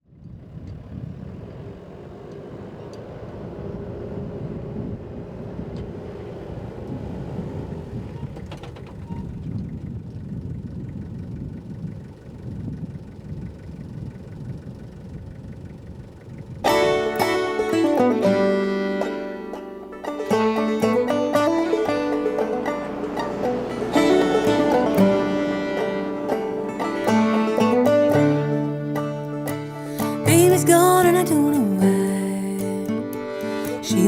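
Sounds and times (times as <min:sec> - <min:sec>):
truck engine rumbling: 0:00.0 - 0:34.0.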